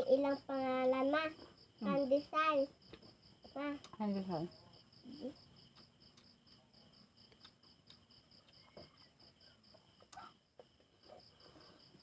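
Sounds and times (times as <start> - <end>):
faint insect chirping: 0.0 - 12.0.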